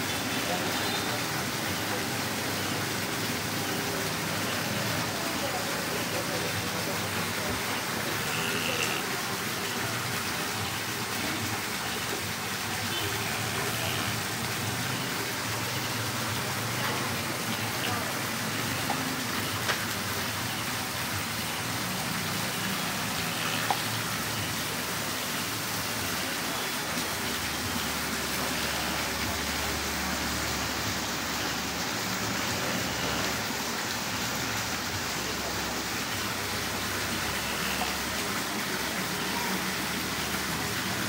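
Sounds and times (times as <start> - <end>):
water hissing: 0.0 - 41.0.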